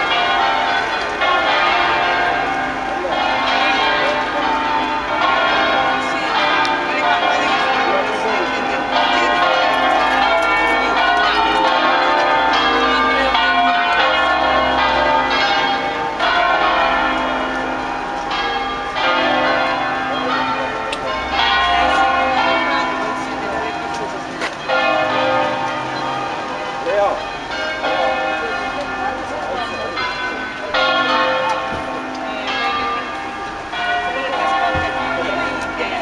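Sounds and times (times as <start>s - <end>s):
church bells ringing: 0.0s - 36.0s.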